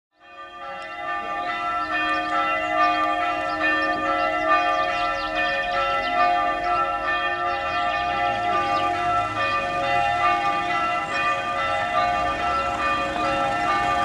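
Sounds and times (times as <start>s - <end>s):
church bells ringing: 0.2s - 14.0s.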